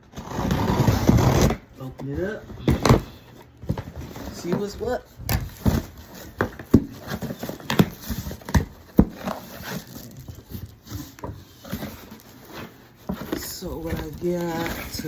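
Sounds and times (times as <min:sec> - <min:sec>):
rustling: 0:00.0 - 0:15.0
knocks and thuds on cardboard box: 0:00.4 - 0:15.0.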